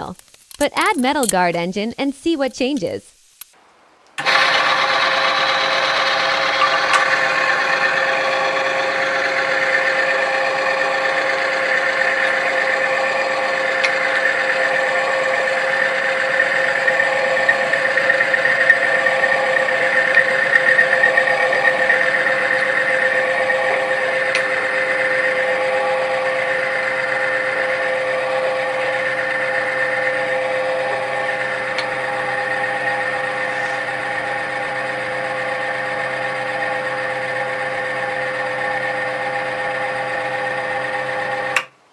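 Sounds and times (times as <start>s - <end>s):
machine humming with whine: 4.2s - 41.7s.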